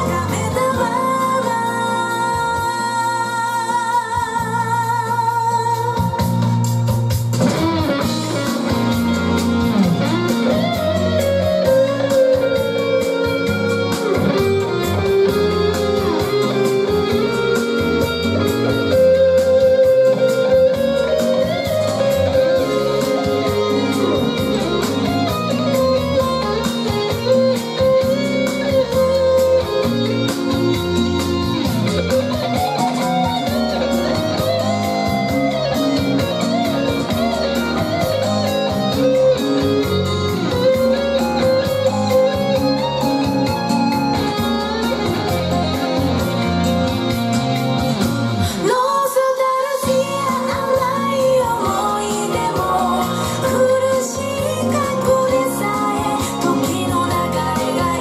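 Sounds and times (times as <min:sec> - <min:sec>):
bass accompaniment: 0:00.0 - 0:48.6, 0:49.8 - 0:58.0
electric guitar lead line: 0:00.0 - 0:58.0.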